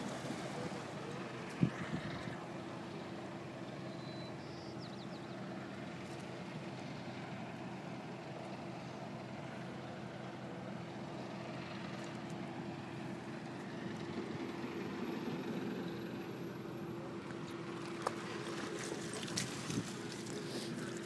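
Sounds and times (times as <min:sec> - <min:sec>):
engine hum: 0:00.0 - 0:21.0
outdoor noise: 0:00.0 - 0:21.0.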